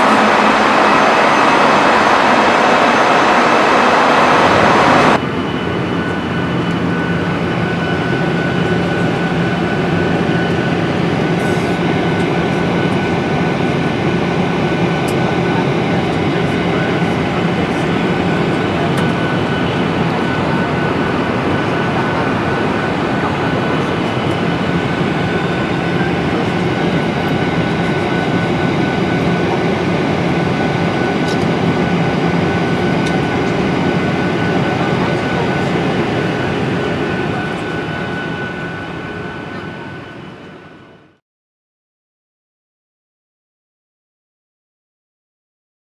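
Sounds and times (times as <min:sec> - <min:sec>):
engine and airflow rush: 0:00.0 - 0:40.7.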